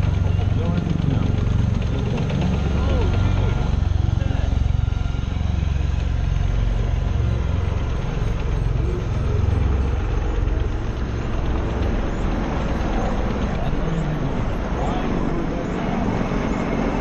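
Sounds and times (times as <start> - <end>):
heavy engine idling: 0.0 - 17.0.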